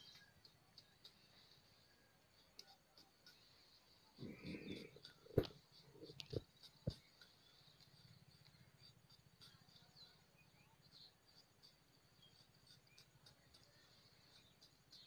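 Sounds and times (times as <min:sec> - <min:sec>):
insect and bird chirps: 0:00.0 - 0:15.0.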